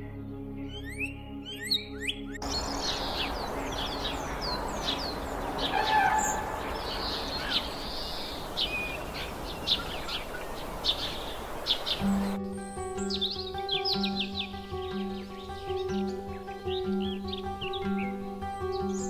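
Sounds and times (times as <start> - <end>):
birds chirping: 0.6 - 19.0
steady background hiss: 2.4 - 19.0.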